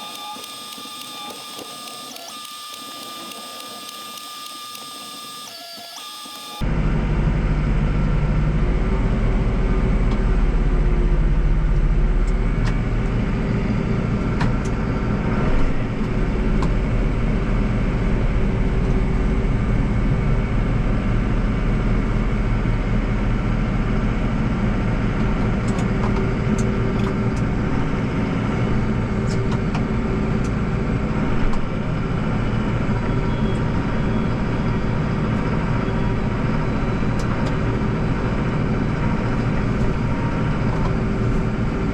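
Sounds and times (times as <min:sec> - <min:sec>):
tractor diesel engine under load: 0:06.6 - 0:41.9.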